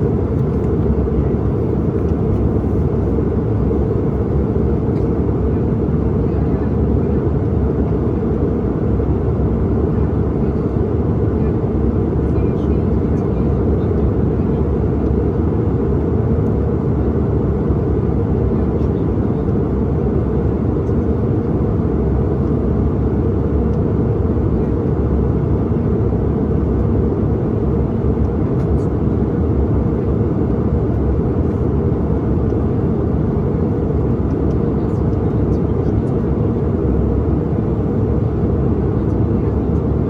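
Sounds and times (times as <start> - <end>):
airliner cabin engine roar: 0.0 - 40.0.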